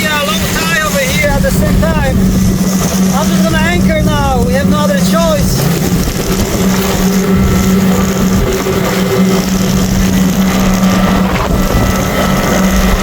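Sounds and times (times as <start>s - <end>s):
boat engine running: 0.0s - 13.0s
constant rushing noise: 0.0s - 13.0s.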